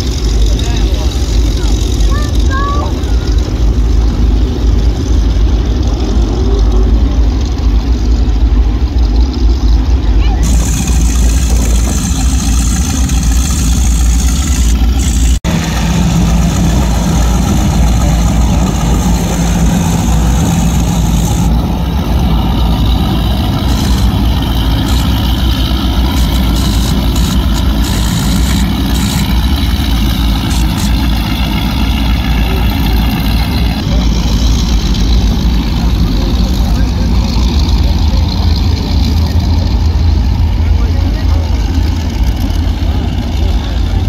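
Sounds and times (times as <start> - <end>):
powerboat engines running: 0.0 - 44.0
water wash: 0.0 - 44.0.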